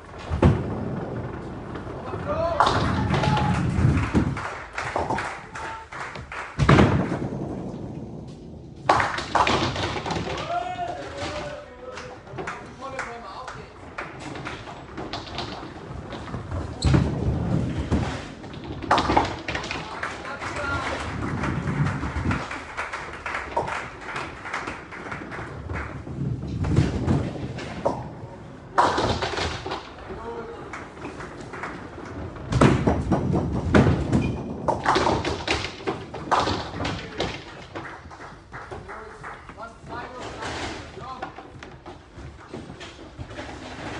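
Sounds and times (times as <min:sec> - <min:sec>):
bowling balls rolling: 0:00.0 - 0:43.9
bowling pins clattering: 0:00.0 - 0:43.9.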